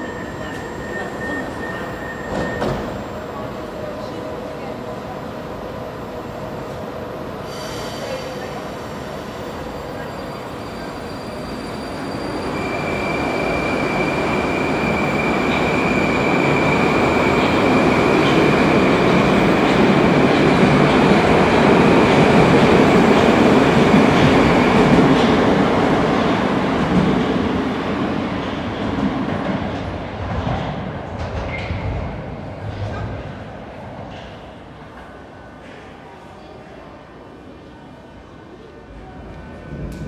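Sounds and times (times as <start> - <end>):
metro train rumbling on track: 0.0 - 40.0.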